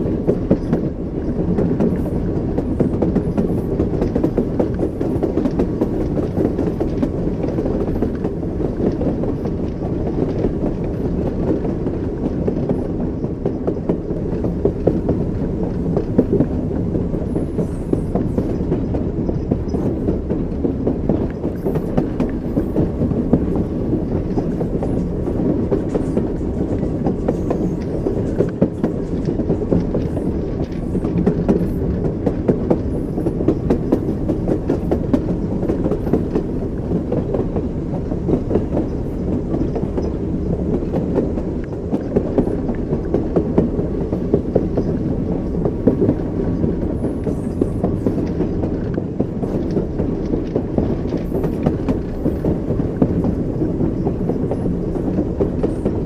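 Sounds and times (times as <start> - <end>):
low rumble of rolling stock: 0.0 - 56.0
train wheels clattering over rail joints: 0.0 - 56.0.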